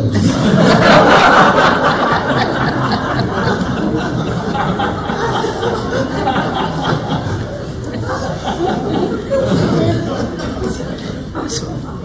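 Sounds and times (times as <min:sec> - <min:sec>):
audience laughing: 0:00.0 - 0:11.8.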